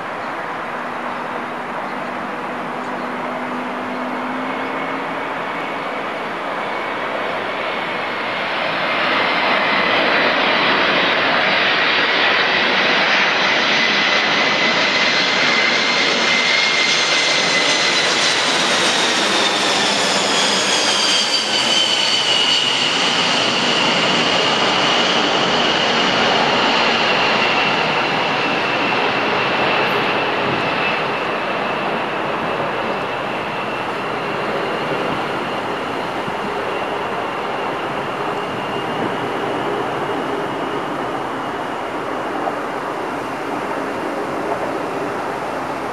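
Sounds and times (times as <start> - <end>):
jet engines passing overhead: 0.0 - 45.9.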